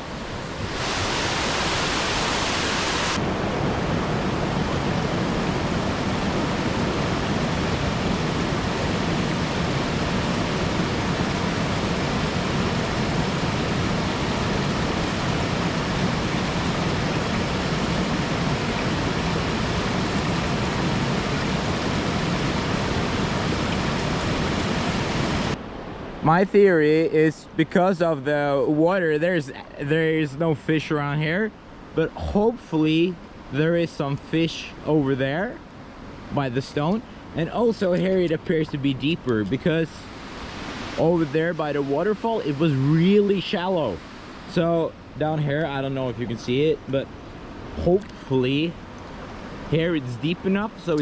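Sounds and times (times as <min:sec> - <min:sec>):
waterfall and stream rushing: 0:00.0 - 0:51.0.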